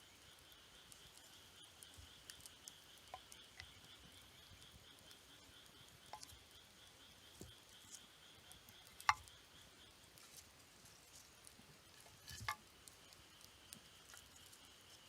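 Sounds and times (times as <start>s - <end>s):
campfire crackling and popping: 0.0s - 15.0s
high-pitched insect trill: 0.0s - 15.0s.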